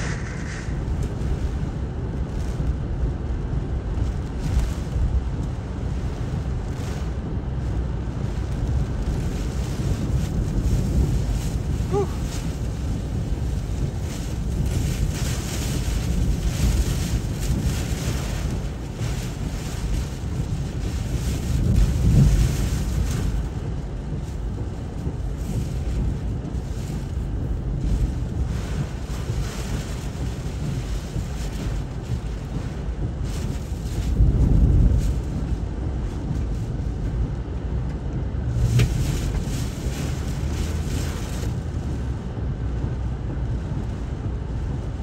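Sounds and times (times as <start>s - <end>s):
strong wind blasting microphone: 0.0s - 45.0s
wind-driven rain: 0.0s - 45.0s.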